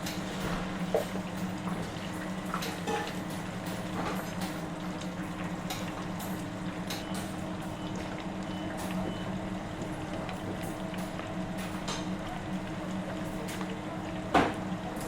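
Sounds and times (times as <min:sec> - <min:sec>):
oil bubbling in deep fryer: 0:00.0 - 0:15.0.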